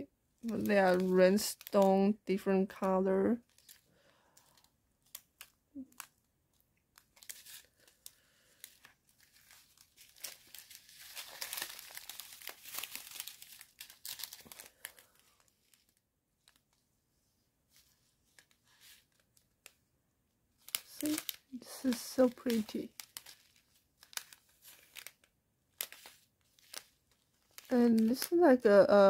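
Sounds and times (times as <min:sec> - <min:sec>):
plastic packaging crinkling: 0:00.0 - 0:16.8, 0:17.7 - 0:19.8, 0:20.5 - 0:29.0.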